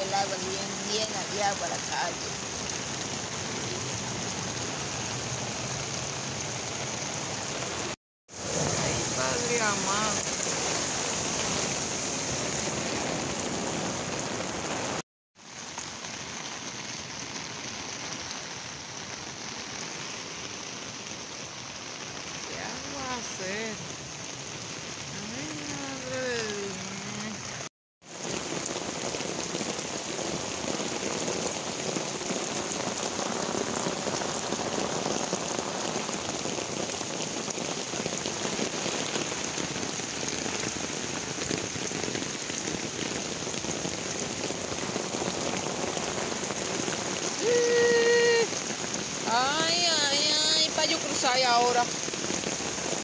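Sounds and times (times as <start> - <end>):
heavy rain on standing water: 0.0 - 53.0.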